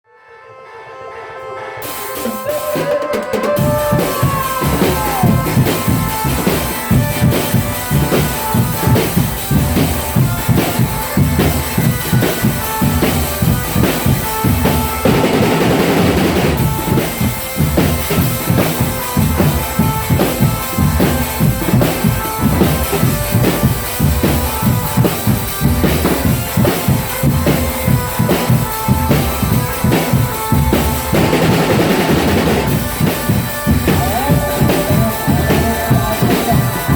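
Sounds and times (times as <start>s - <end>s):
bass drums and snare drums: 1.8s - 36.9s.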